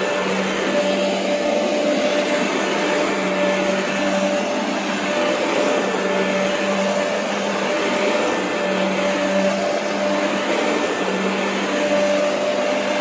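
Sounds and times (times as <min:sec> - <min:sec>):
vacuum cleaner running on carpet: 0:00.0 - 0:13.0.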